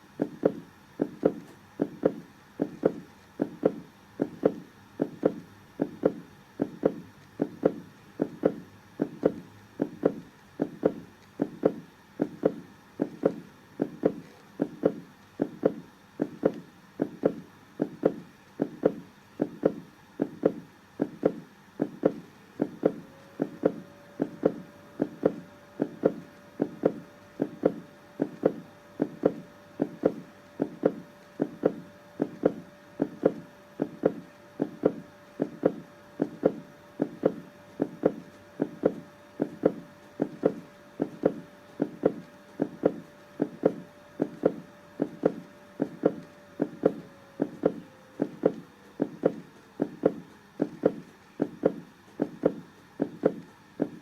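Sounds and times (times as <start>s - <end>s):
heartbeat thumping: 0.0s - 54.0s.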